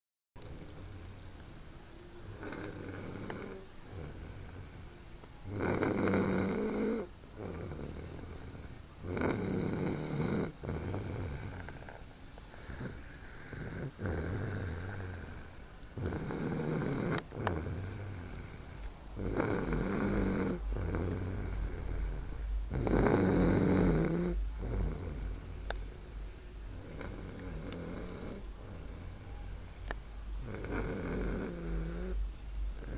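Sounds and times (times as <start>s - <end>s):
quiet breathing: 0.4s - 32.9s
man snoring: 2.2s - 12.0s, 12.6s - 26.1s, 26.7s - 29.8s, 30.4s - 32.2s.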